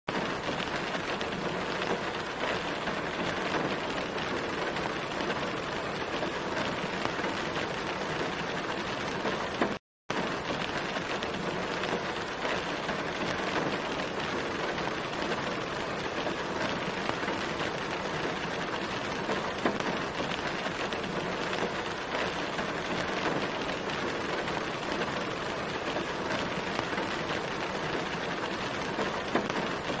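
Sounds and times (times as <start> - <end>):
rain on a car windshield: 0.1 - 30.0.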